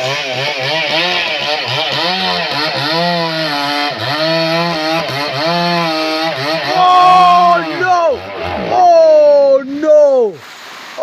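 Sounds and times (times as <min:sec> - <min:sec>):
man imitating chainsaw with voice: 0:00.0 - 0:10.4.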